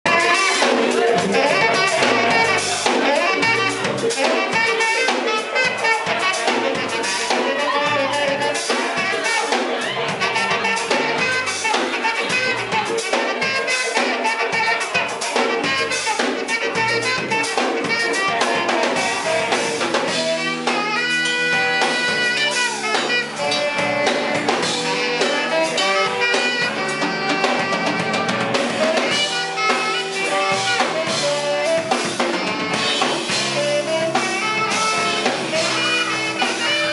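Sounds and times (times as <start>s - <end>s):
blues band playing: 0.0s - 36.9s
drum kit: 0.0s - 36.9s
electric guitar: 0.1s - 36.9s.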